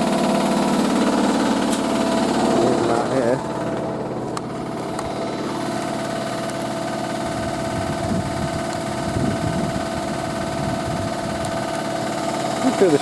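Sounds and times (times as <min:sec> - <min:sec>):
washing machine motor whine: 0:00.0 - 0:13.0
washing machine vibration rumble: 0:00.0 - 0:13.0.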